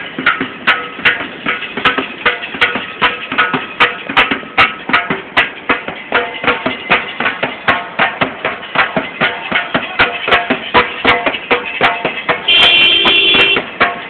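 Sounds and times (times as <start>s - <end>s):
hand drum beaten in steady rhythm: 0.0s - 14.0s.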